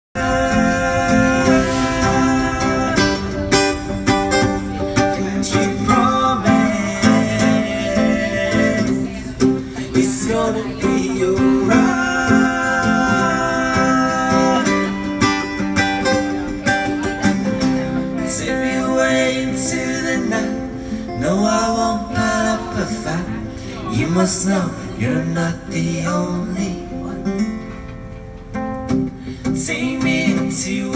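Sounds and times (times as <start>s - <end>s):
acoustic guitar: 0.1s - 30.9s
voices singing: 0.2s - 15.1s, 17.6s - 27.2s, 29.5s - 30.9s.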